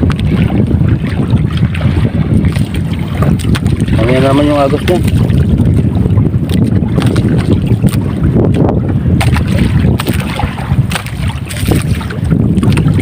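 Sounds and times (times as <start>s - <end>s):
boat rumbling through water: 0.0s - 13.0s
wind buffeting microphone: 0.0s - 13.0s.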